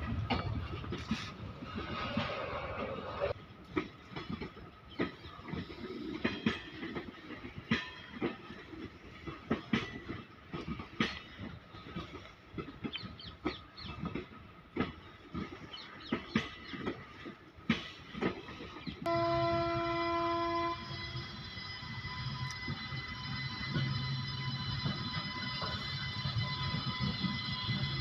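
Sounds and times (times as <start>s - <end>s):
train wheels knocking over rail joints: 3.7s - 28.0s.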